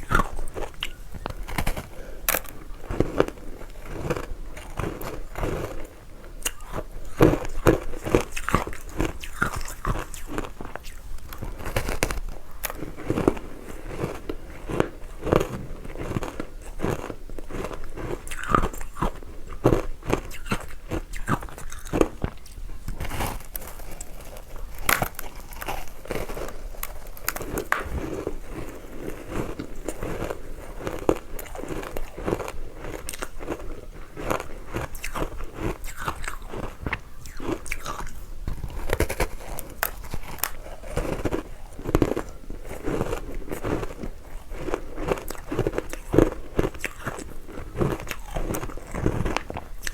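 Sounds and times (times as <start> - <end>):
ice crunching while chewed: 0.0 - 49.9.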